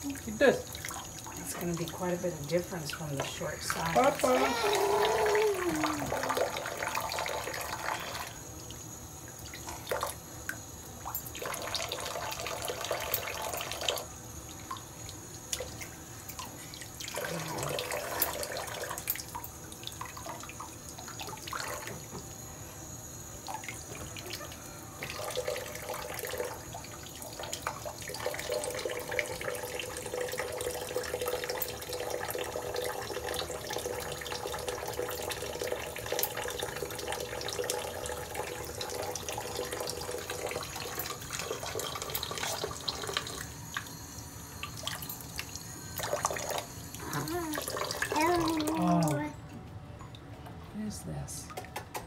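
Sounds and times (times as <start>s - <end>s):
water running in a sink: 0.0s - 49.4s.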